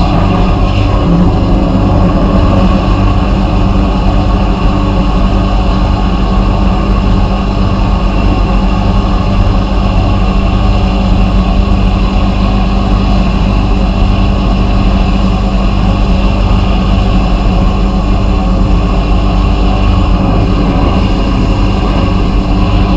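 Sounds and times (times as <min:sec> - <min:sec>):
steady hum: 0:00.0 - 0:22.9.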